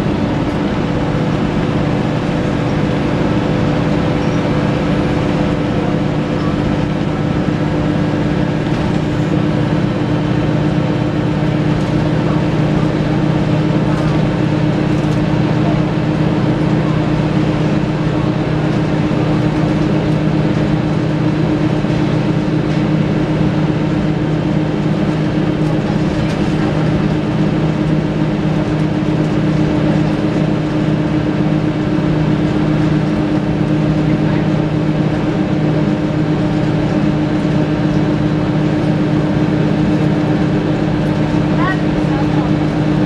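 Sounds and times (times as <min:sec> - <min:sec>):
bus diesel engine droning: 0:00.0 - 0:43.0
road and cabin noise: 0:00.0 - 0:43.0.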